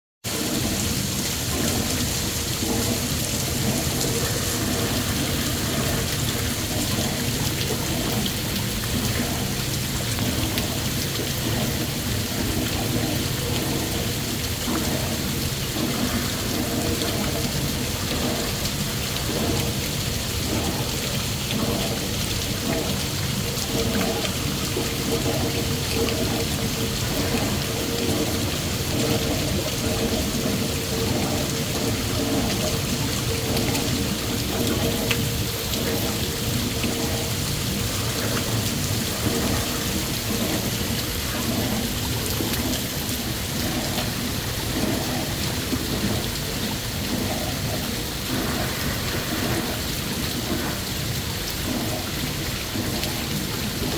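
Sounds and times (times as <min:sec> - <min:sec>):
water drops pattering: 0:00.6 - 0:50.8.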